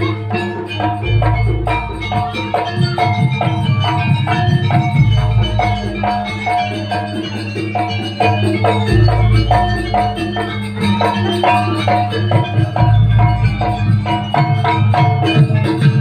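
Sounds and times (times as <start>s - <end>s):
drums: 0.0s - 16.0s
metal-keyed percussion pattern: 0.0s - 16.0s.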